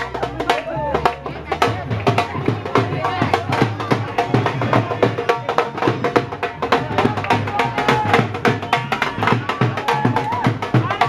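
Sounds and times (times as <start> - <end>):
drumming with quick steady beats: 0.0 - 11.0.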